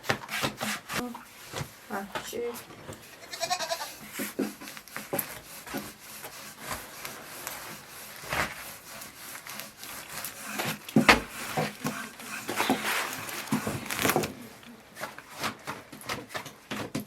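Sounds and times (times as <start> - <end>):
scraping and knocking on wood: 0.0 - 17.0.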